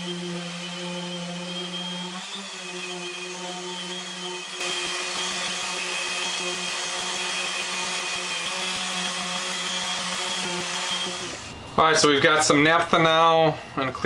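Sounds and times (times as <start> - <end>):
electric sander gritty rasp: 0.0 - 11.5.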